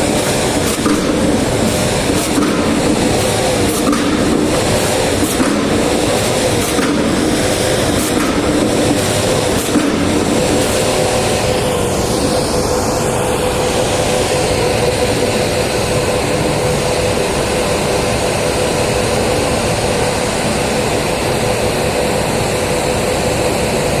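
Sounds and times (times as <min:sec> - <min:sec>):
heavy machinery engine running: 0:00.0 - 0:24.0.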